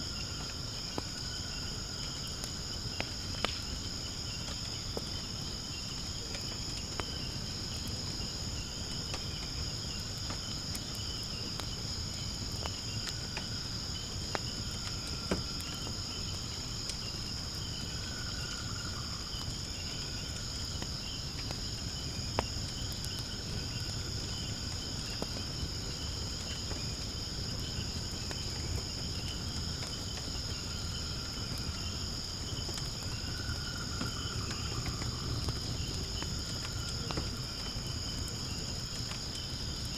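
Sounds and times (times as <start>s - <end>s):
insects chirring: 0.0s - 39.9s
wood fire crackling: 0.0s - 39.9s.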